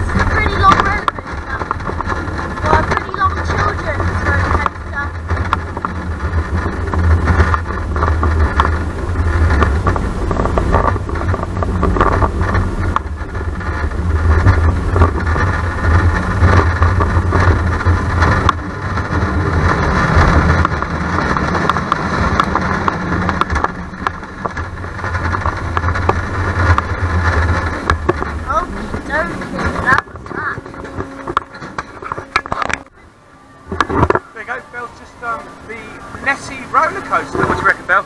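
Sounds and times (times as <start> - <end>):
roller coaster rumbling on track: 0.0 - 38.0
wheels and cars rattling: 0.0 - 38.0.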